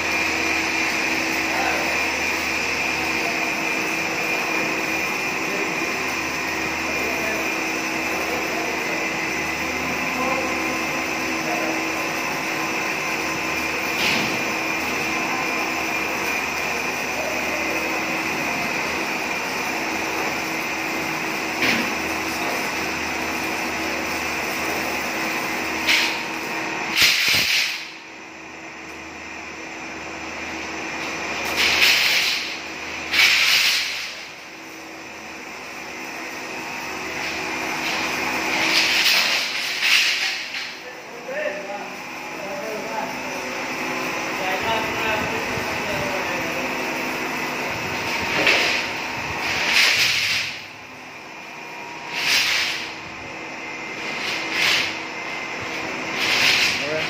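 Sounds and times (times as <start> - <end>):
machinery drone with whine: 0.0 - 57.0.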